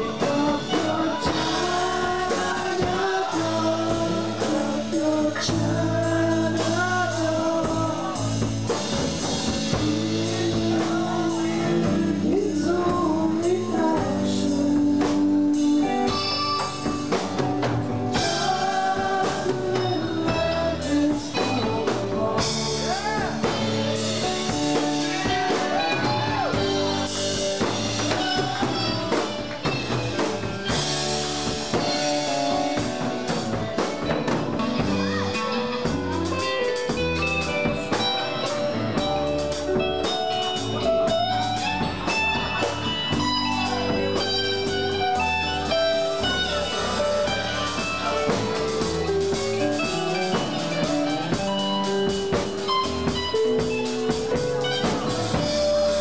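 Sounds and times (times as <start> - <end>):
bass: 0.0 - 56.0
drum kit: 0.0 - 56.0
electric guitar melody: 0.0 - 56.0.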